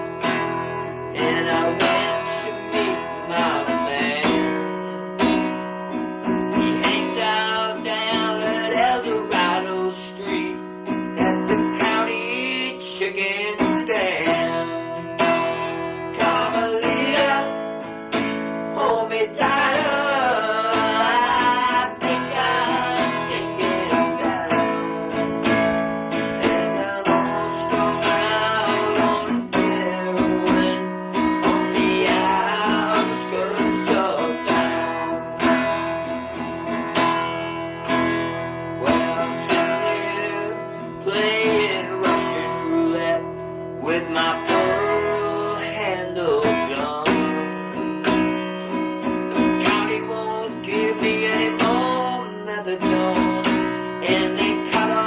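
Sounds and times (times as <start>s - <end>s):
acoustic guitar instrumental: 0.0s - 55.0s.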